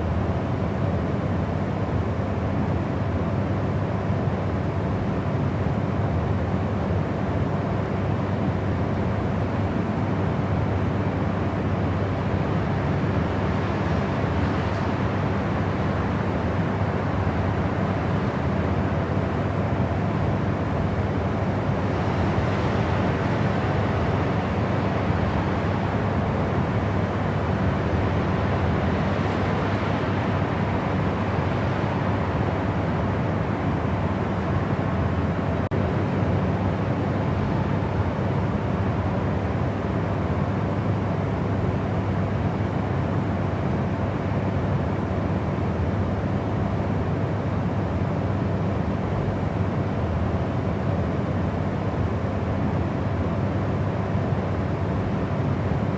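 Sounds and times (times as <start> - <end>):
steady white noise: 0.0 - 55.9.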